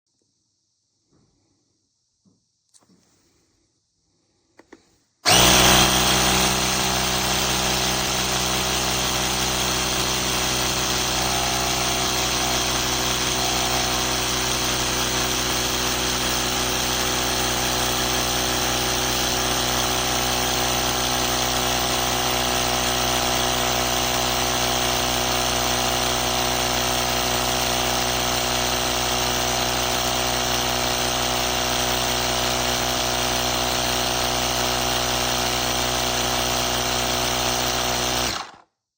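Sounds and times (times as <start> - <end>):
tire inflator motor humming: 4.6 - 38.6.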